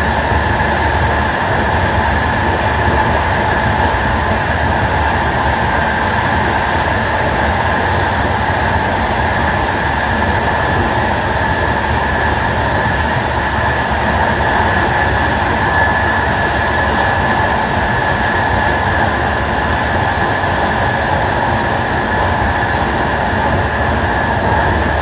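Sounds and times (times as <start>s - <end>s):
faint steady whine: 0.0s - 25.0s
train wheels rumbling on rail: 0.0s - 25.0s.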